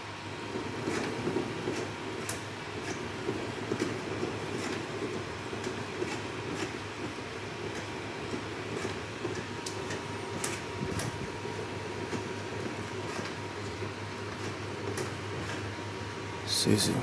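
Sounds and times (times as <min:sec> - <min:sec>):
low room hum and rumble: 0:00.0 - 0:17.0.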